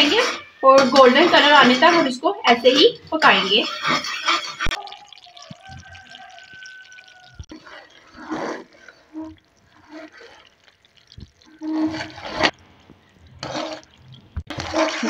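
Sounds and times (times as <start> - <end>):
spoon scraping a pan: 0.0 - 4.8, 7.5 - 15.0
syrup bubbling: 2.5 - 15.0.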